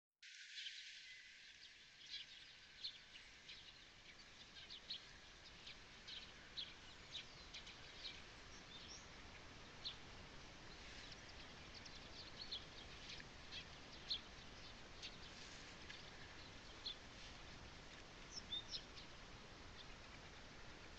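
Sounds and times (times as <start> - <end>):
small birds chirping: 0.4 - 20.9.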